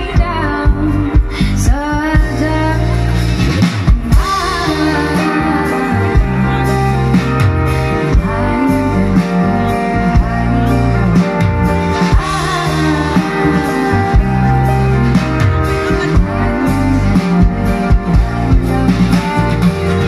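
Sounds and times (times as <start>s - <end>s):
woman singing: 0.0s - 3.3s, 3.9s - 11.3s, 11.9s - 18.1s
bass line: 0.0s - 20.0s
keyboard: 0.0s - 20.0s
steady beat: 3.5s - 20.0s.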